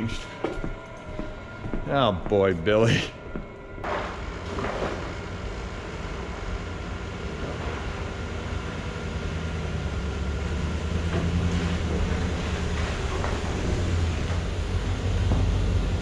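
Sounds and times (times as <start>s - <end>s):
low mechanical rumble: 3.1s - 16.0s.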